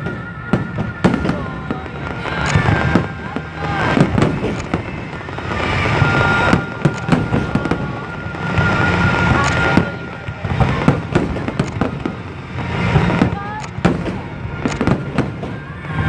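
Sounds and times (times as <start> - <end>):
deep rumble: 0.0 - 16.0
fireworks bangs: 0.0 - 16.0
fireworks crackling: 0.0 - 16.0.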